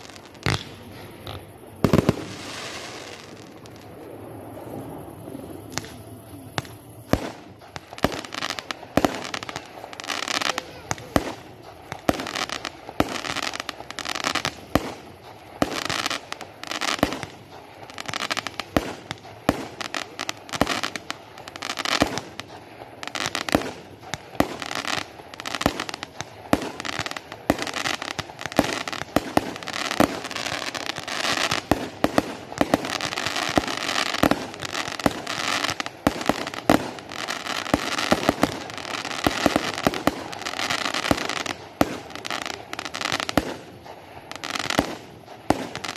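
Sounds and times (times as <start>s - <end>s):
fireworks crackling: 0.0s - 45.9s.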